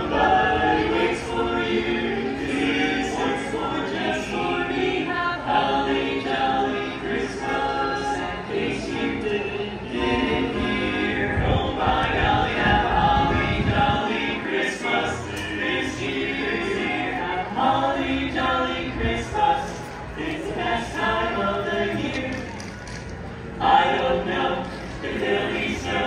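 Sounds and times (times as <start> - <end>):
male quartet singing a cappella: 0.0 - 22.6, 23.6 - 26.0.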